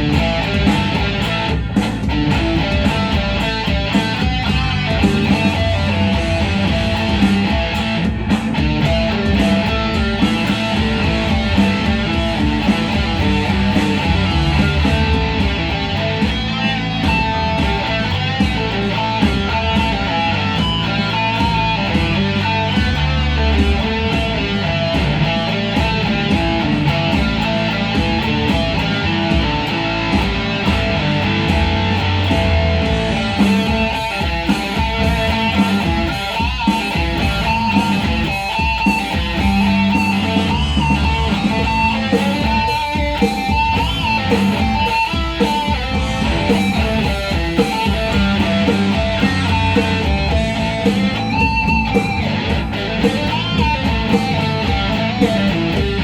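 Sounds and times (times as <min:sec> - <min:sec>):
guitar-led music with beat: 0:00.0 - 0:56.0.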